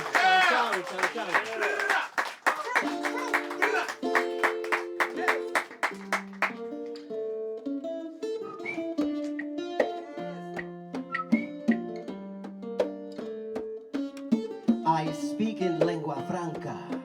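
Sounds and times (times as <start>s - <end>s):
plucked string instrument chords: 2.9s - 17.0s.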